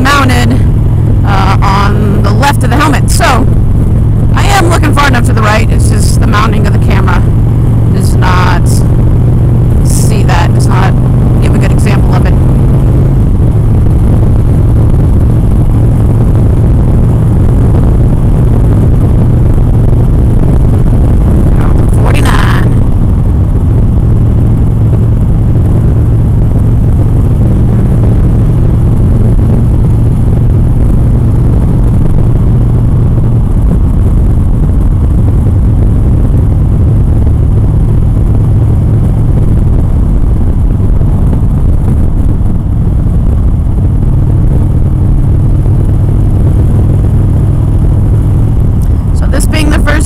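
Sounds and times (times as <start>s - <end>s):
motorcycle engine hum: 0.0s - 50.0s
wind and road noise: 0.0s - 50.0s.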